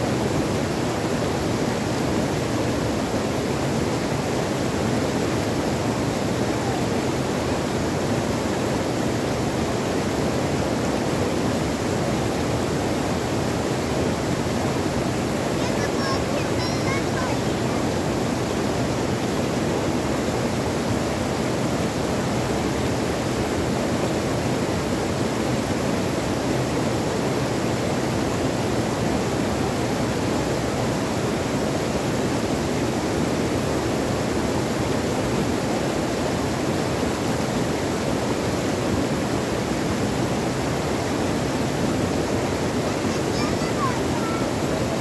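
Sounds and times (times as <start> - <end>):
stream rushing over rocks: 0.0 - 45.0.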